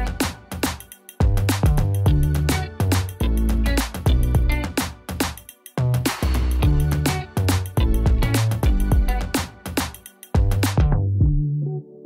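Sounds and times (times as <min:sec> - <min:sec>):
background music with drum beat: 0:00.0 - 0:11.4.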